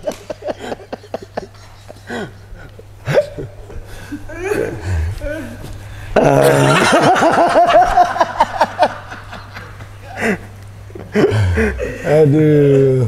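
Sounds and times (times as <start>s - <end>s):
hearty laughter: 0.0s - 4.8s, 6.2s - 12.1s.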